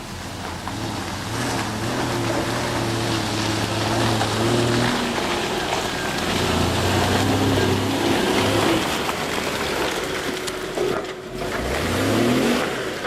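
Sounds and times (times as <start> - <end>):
engine pulling uphill: 0.0 - 13.0.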